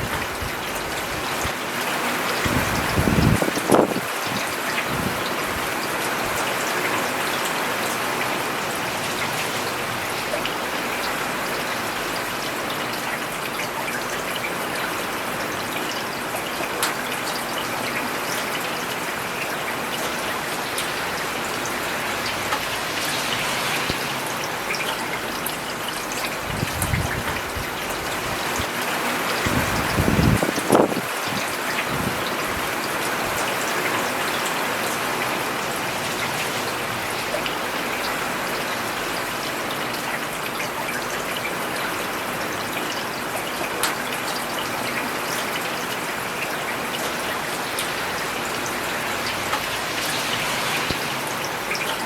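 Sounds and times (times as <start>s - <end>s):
rain on a paved road: 0.0s - 52.0s.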